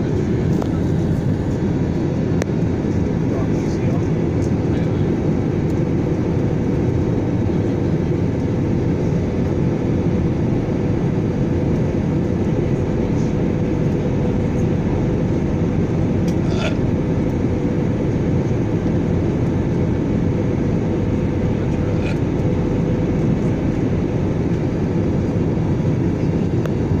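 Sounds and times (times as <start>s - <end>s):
jet engine roar in cabin: 0.0s - 27.0s.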